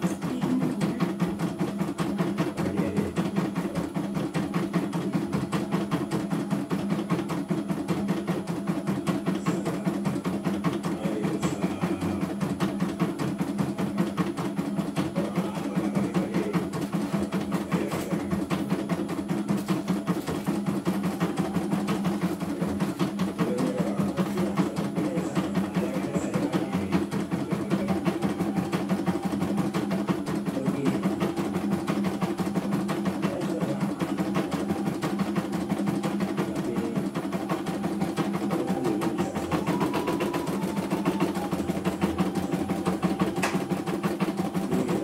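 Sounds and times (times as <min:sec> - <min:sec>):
machine hum: 0:00.0 - 0:45.0.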